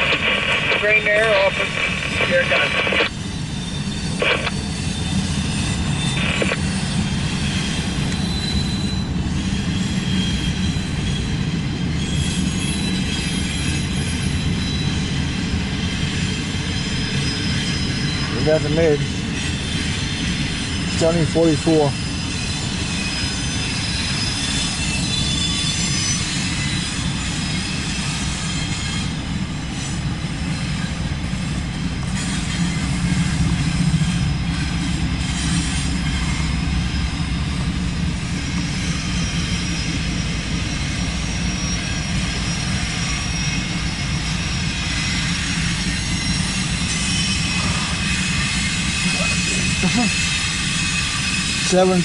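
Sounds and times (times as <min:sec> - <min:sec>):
diesel locomotive engine rumble: 0:00.0 - 0:52.0
train wheels on rails: 0:00.0 - 0:52.0.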